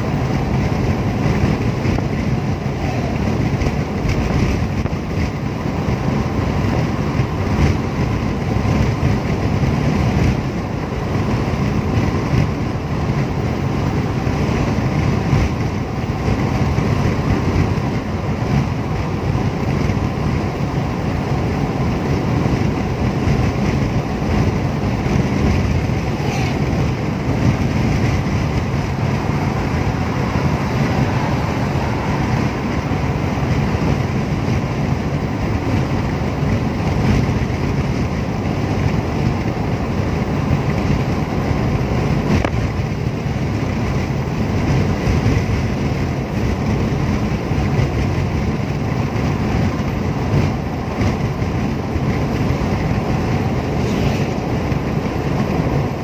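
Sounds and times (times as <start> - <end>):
car engine running: 0.0 - 56.0
tyres on pavement: 0.0 - 56.0.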